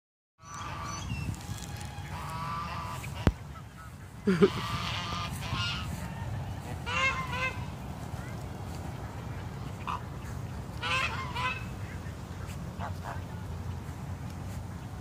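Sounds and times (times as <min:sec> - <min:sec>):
geese honking: 0:00.4 - 0:15.0
steady low rumble: 0:00.5 - 0:15.0.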